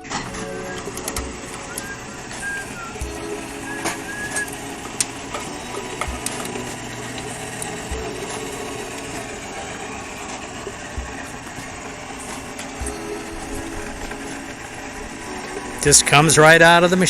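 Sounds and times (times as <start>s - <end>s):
gutter-forming machine running: 0.0s - 17.0s.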